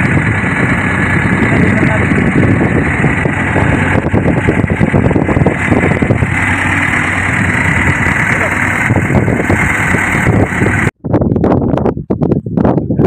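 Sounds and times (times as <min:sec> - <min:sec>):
boat engine drone: 0:00.0 - 0:10.9.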